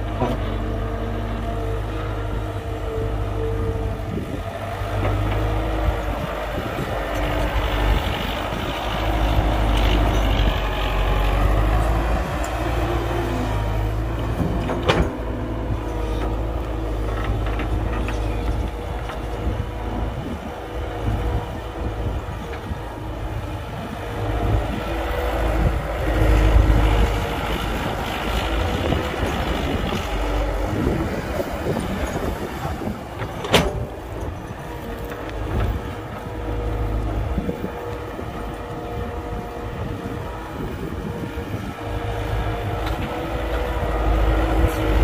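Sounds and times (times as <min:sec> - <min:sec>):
diesel engines rumbling: 0:00.0 - 0:45.0.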